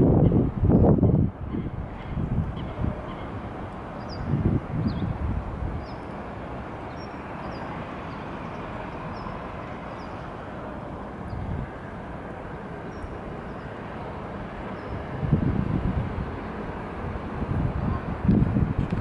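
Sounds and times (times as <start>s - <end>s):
city background noise: 0.0s - 19.0s
distant train rumble: 0.0s - 19.0s
wind buffeting microphone: 0.0s - 19.0s.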